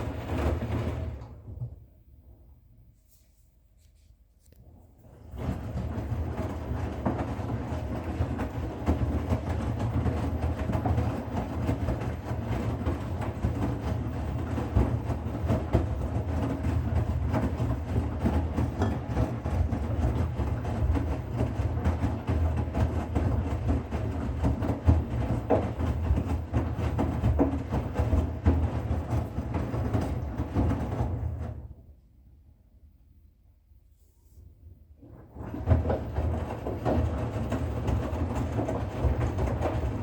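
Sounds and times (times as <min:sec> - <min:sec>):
washing machine running: 0:00.0 - 0:02.4, 0:04.9 - 0:31.9, 0:35.0 - 0:40.0.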